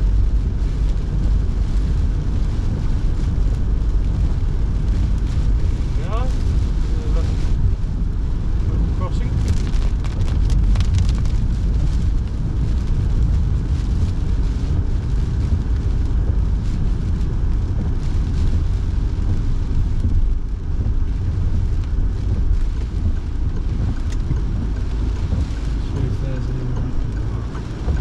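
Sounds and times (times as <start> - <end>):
car engine and tyres on wet road: 0.0 - 28.0.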